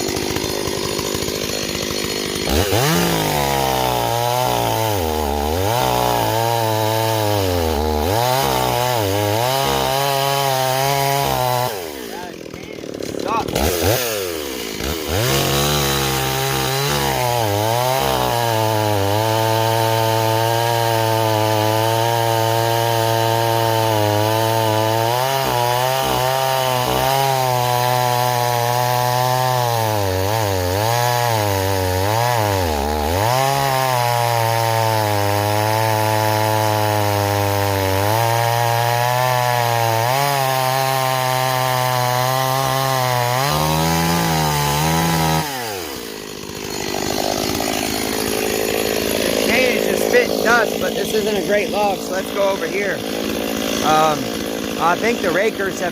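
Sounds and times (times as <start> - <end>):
chainsaw cutting a log: 0.0 - 55.9.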